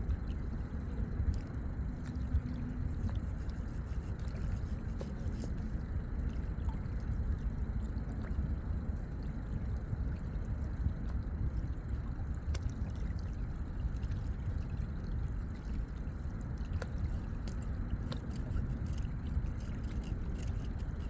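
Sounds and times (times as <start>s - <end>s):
continuous low rumble: 0.0s - 21.0s.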